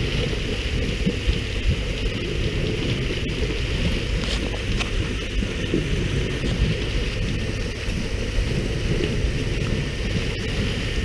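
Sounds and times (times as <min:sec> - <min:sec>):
water spattering on sea surface: 0:00.0 - 0:11.0
wind on microphone: 0:00.0 - 0:11.0.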